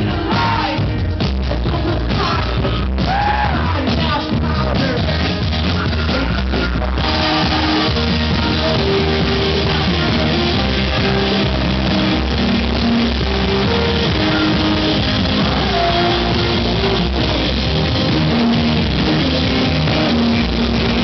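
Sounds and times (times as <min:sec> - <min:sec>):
drums: 0:00.0 - 0:21.0
electric guitars: 0:00.0 - 0:21.0
person singing lead vocal: 0:00.0 - 0:21.0.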